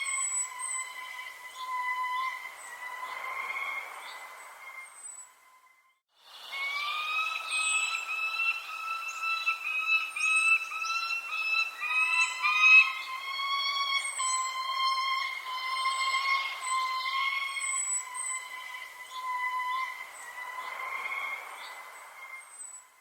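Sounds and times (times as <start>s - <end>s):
thin high bird chirps: 0.0s - 6.0s, 6.7s - 23.0s
bird whistling repeated notes: 0.0s - 23.0s.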